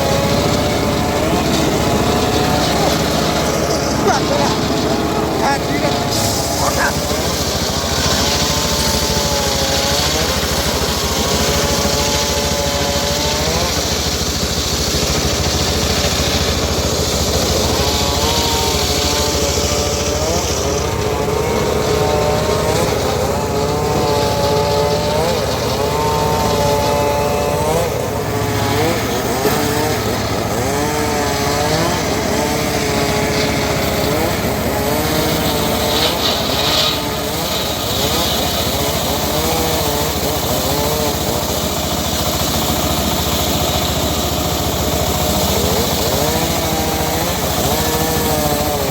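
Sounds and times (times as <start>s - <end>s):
high hissing saw cutting: 0.0s - 48.9s
sawmill engine running: 0.0s - 48.9s.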